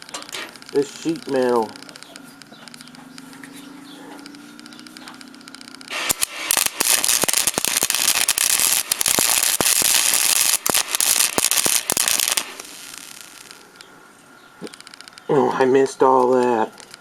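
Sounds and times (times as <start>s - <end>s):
sharp welding pops: 0.0s - 13.9s, 14.5s - 17.0s
welding arc crackling: 0.0s - 13.9s, 14.6s - 17.0s.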